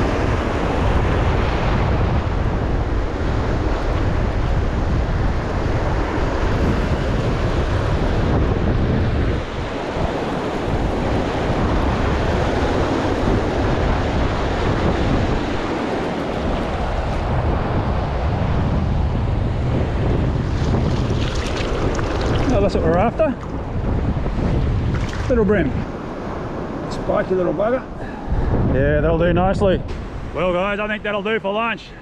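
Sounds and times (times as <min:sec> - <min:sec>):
ocean surf washing: 0:00.0 - 0:32.0
wind buffeting microphone: 0:00.0 - 0:32.0.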